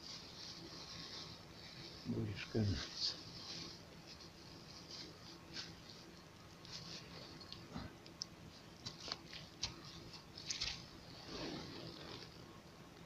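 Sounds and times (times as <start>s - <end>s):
rustling in dry grass: 0.0s - 7.8s, 8.4s - 12.5s.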